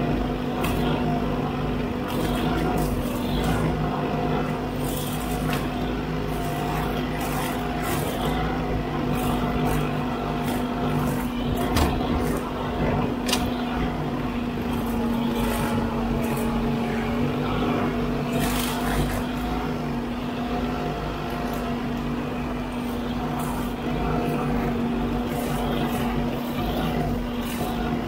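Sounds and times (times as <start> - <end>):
machine hum: 0.0 - 28.0.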